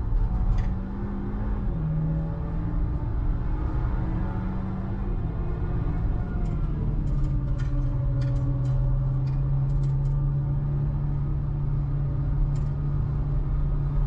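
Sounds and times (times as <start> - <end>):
car engine running steadily: 0.0 - 14.0.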